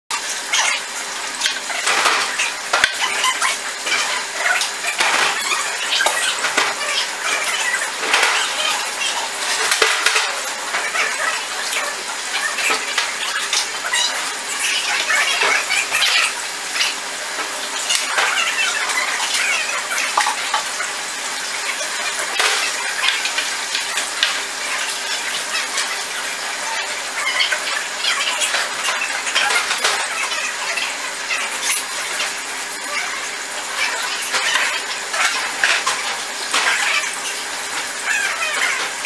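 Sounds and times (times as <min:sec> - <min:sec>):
aquarium water sloshing and splashing: 0:00.1 - 0:39.0.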